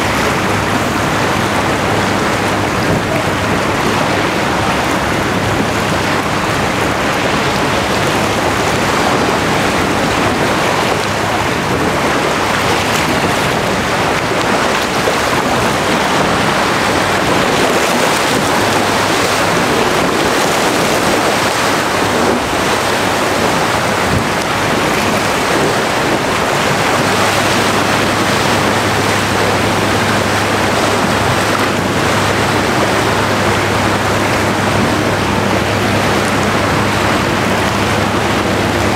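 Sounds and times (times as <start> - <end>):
waves rushing: 0.0 - 38.9
wind noise on microphone: 0.0 - 38.9.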